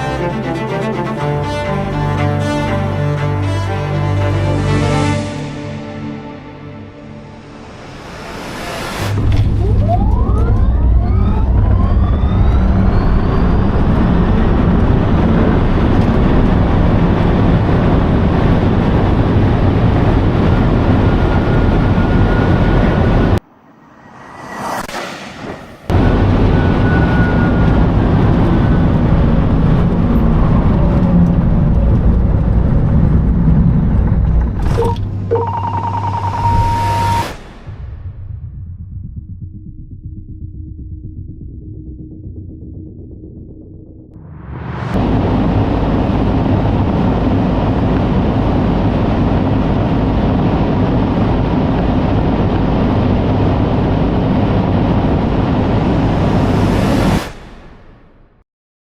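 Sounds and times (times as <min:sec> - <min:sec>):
loud vehicle roar: 0:00.0 - 0:37.8, 0:44.1 - 0:57.5
wind and tyre noise: 0:07.6 - 0:40.6, 0:44.1 - 0:58.2.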